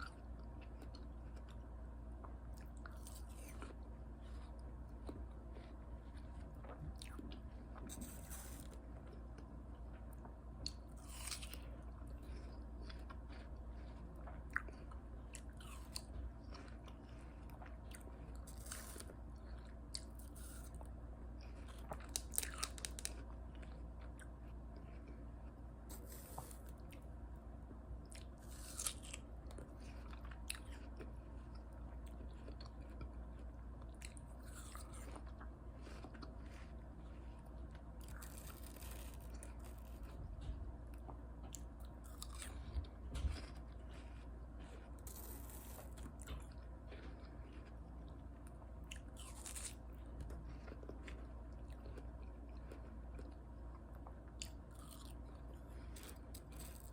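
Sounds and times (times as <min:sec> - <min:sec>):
biting and chewing watermelon: 0:00.0 - 0:27.1, 0:28.0 - 0:56.9
low hum: 0:00.0 - 0:56.9.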